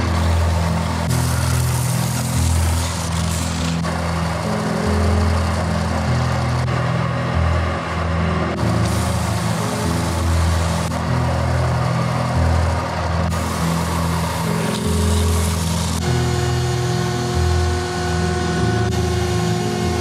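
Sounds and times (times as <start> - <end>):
wood being sanded hiss: 0.0 - 6.6, 8.6 - 20.0
belt sander running: 0.0 - 20.0.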